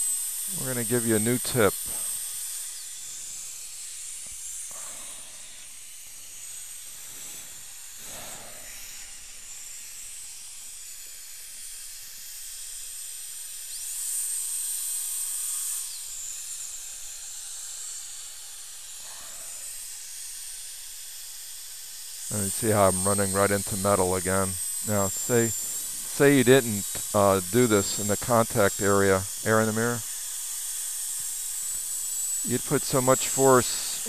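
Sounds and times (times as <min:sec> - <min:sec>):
dental drill high whine: 0:00.0 - 0:34.0.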